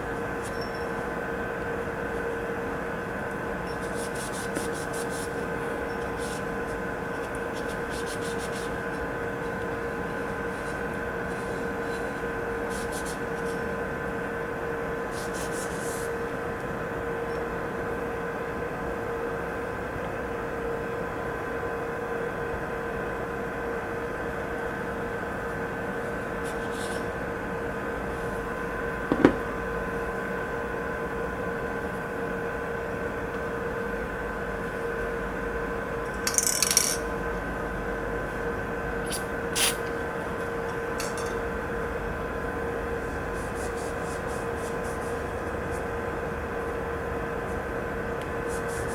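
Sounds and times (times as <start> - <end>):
steady hum with held tones: 0.0 - 48.9.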